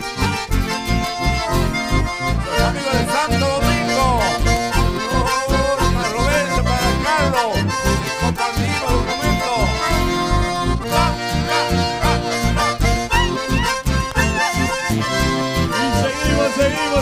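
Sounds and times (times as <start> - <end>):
accordions playing melody: 0.0 - 17.0
steady bass beat: 0.0 - 17.0
strummed guitars: 0.0 - 17.0.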